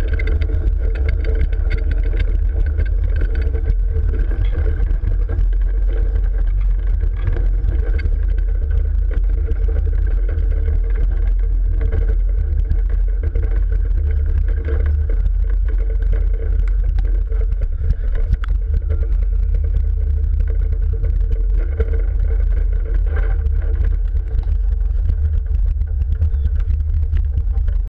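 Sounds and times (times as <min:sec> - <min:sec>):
wheels clattering: 0:00.0 - 0:27.8
wooden roller coaster rumbling: 0:00.0 - 0:27.9.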